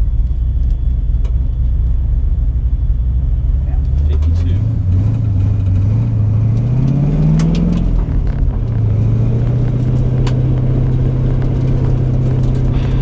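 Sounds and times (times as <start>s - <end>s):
car engine revving: 2.0s - 13.0s.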